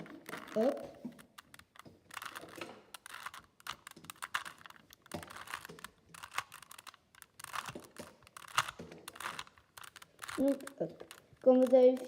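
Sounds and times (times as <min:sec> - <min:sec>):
puzzle cube plastic clicks: 0:00.0 - 0:12.0.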